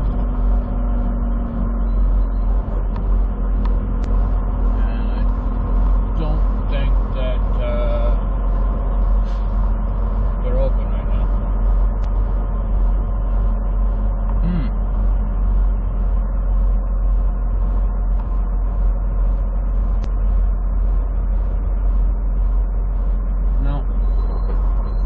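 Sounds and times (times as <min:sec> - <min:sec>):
pulsing hiss: 0:00.0 - 0:25.0
truck diesel engine rumble: 0:00.0 - 0:25.0.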